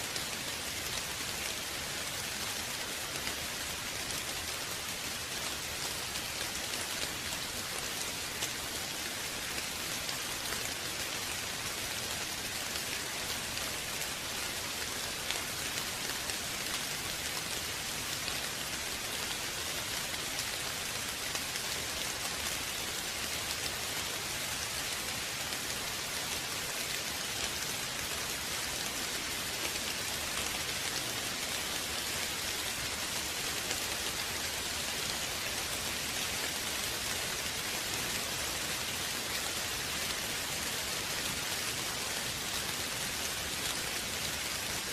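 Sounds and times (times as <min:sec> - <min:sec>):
rain pattering on surface: 0:00.0 - 0:44.9.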